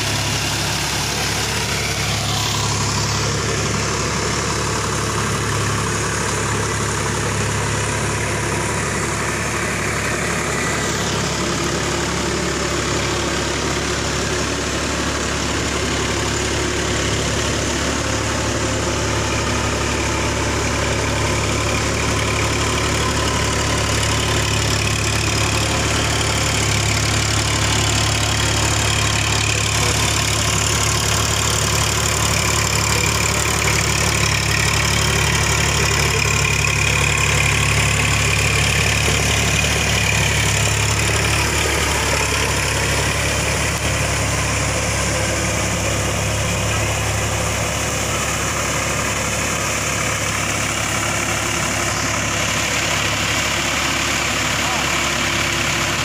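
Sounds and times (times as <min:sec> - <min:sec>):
rotary tiller through wet mud: 0:00.0 - 0:56.0
tractor diesel engine running: 0:00.0 - 0:56.0.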